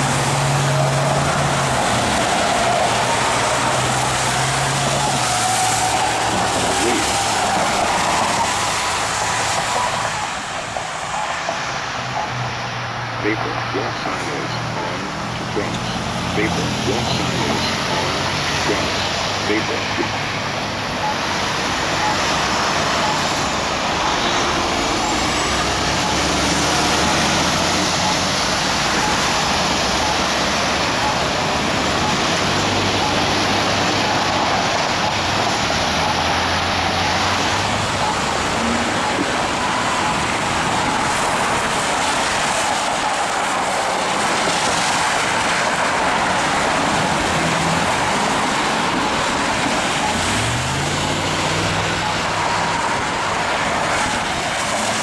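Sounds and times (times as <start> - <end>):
tyres hissing on wet pavement: 0.0 - 13.7, 14.5 - 55.0
vehicle engines humming: 0.0 - 55.0.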